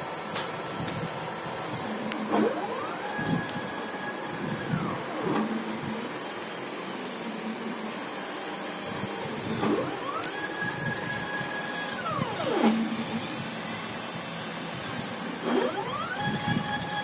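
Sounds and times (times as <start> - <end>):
stepper motors whining: 0.3 - 17.0.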